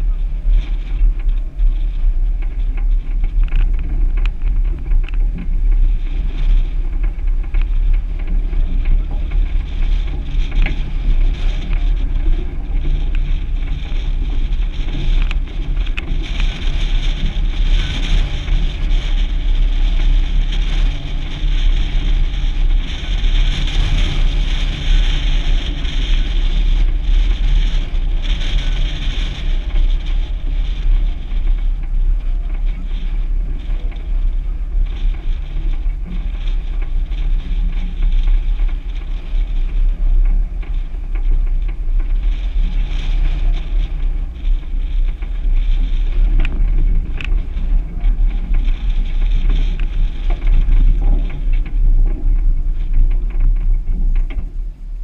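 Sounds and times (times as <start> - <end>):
engine and tyre rumble: 0.0 - 55.0
wind buffeting microphone: 0.0 - 55.0.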